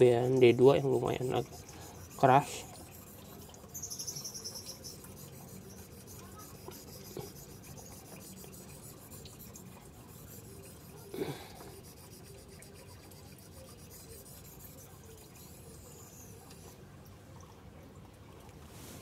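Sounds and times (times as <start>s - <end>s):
knife scraping on whetstone: 0.0s - 16.8s.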